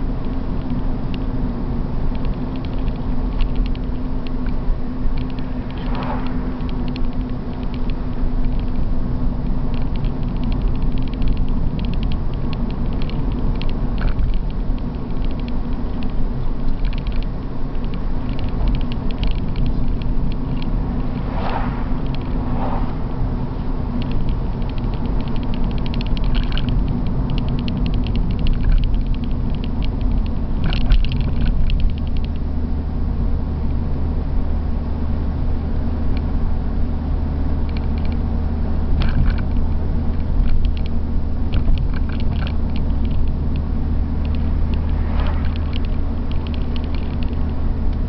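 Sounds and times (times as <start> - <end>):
car engine and road noise: 0.0 - 48.0
interior ticks and creaks: 2.1 - 21.4, 22.0 - 22.6, 23.6 - 32.5, 37.6 - 38.3, 38.9 - 48.0.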